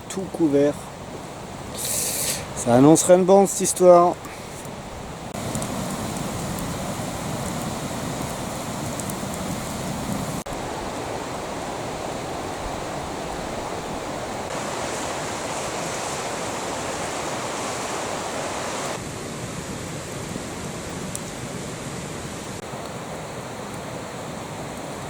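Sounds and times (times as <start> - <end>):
rushing wind: 0.8 - 25.0.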